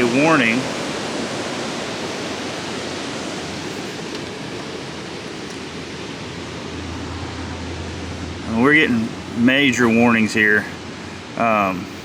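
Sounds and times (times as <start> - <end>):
heavy rain: 0.0 - 12.0
wind: 0.0 - 12.0.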